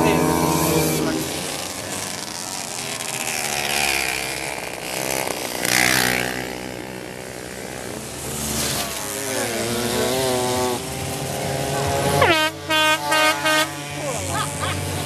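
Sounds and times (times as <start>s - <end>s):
two-stroke moped engines revving: 0.0s - 15.0s.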